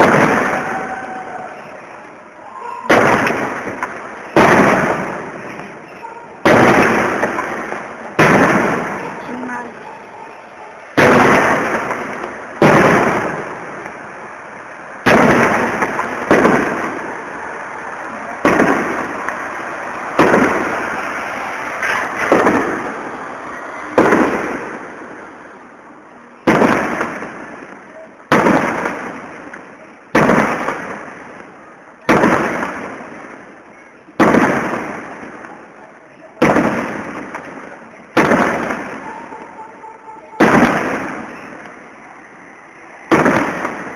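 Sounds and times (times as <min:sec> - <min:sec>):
fireworks bursting with loud bangs: 0:00.0 - 0:43.9.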